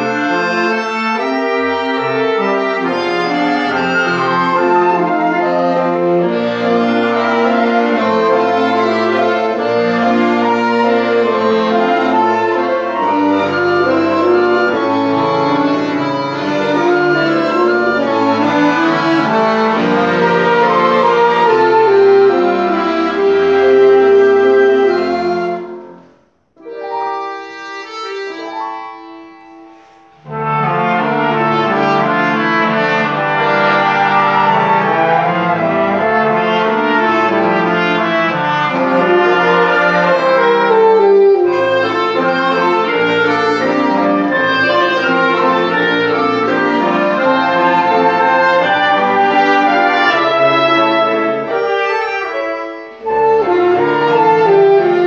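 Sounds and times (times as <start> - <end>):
live ensemble playing: 0.0 - 55.0.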